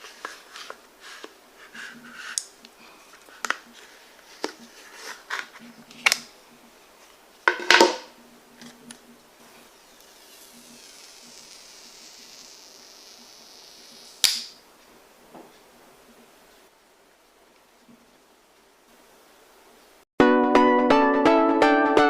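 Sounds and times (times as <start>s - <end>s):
faint rustling hiss: 0.0s - 20.0s.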